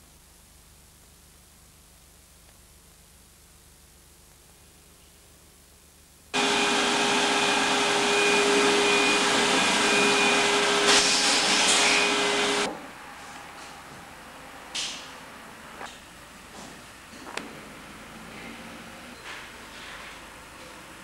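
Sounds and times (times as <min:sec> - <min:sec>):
loud steady whirring hum: 0:00.0 - 0:21.0.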